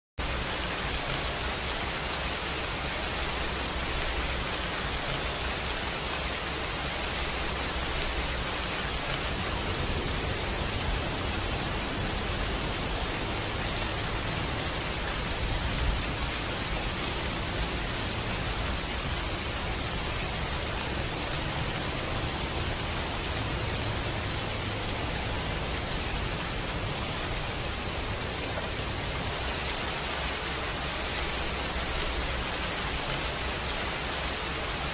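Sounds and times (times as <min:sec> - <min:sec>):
rain hissing: 0:00.2 - 0:34.9.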